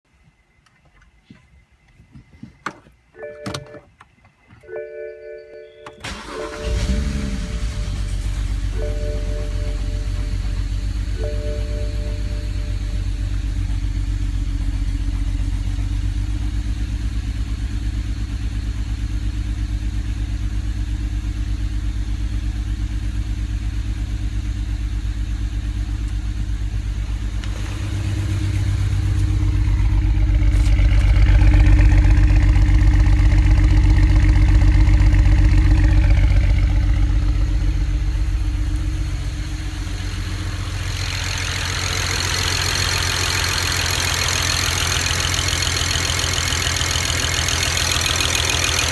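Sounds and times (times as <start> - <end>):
misfiring car engine idling: 6.0 - 48.9.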